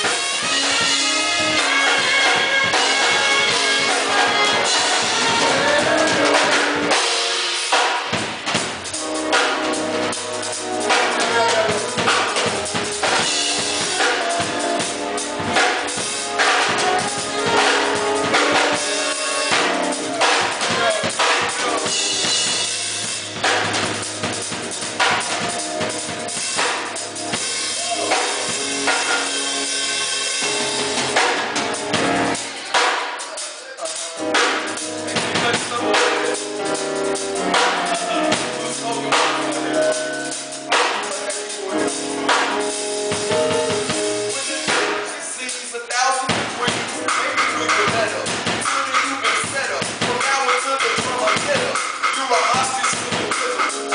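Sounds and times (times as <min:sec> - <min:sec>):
drum kit beat: 0:00.0 - 0:53.9
pitched instruments playing: 0:00.0 - 0:53.9.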